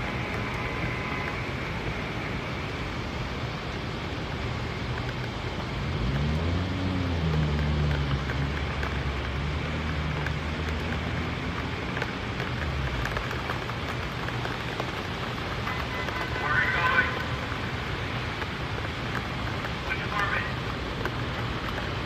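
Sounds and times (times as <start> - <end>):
rain: 0.0 - 22.0
wind: 0.0 - 22.0.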